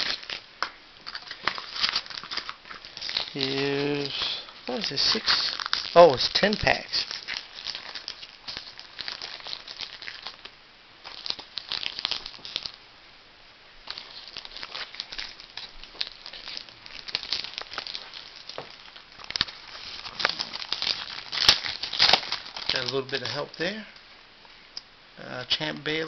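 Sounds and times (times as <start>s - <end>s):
wrapper crinkling and tearing: 0.0s - 12.8s, 13.8s - 23.9s.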